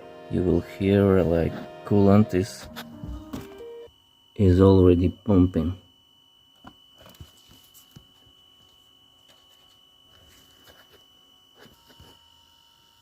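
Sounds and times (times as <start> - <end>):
faint high-pitched tone: 0.0 - 13.0.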